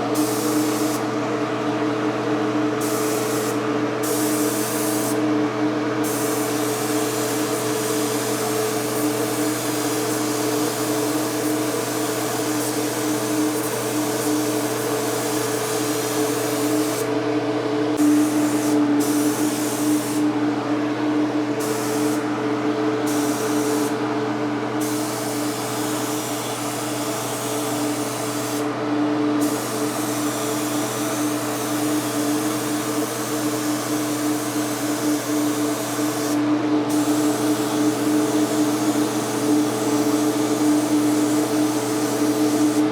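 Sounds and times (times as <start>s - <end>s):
spray gun hissing: 0.1s - 1.0s, 2.8s - 5.2s, 6.0s - 17.1s, 18.0s - 20.2s, 21.6s - 22.2s, 23.1s - 24.0s, 24.8s - 28.7s, 29.4s - 42.9s.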